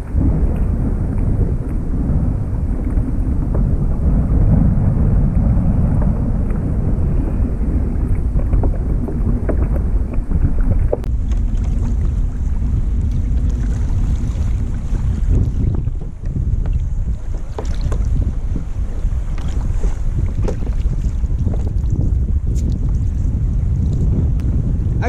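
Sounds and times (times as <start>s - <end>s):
water splashing against hull: 0.0s - 25.0s
wind on microphone: 0.0s - 25.0s.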